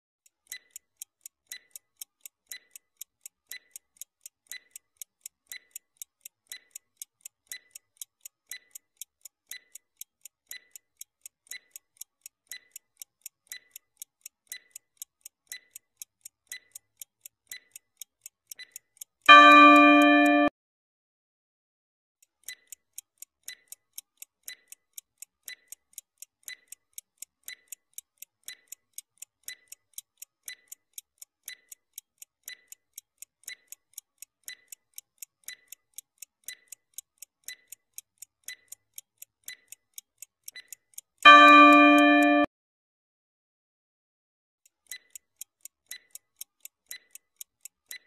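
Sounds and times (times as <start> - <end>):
clock ticking: 0.2 - 20.5, 22.2 - 42.5, 44.6 - 48.0.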